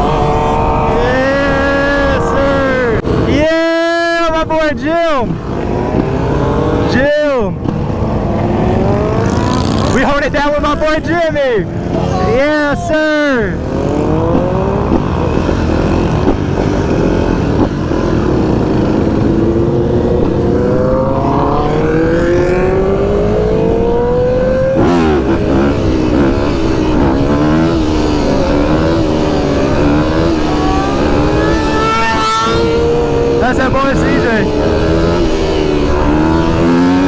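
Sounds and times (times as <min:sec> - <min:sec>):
vehicle engine accelerating: 0:00.0 - 0:04.3, 0:05.1 - 0:07.0, 0:07.6 - 0:37.0.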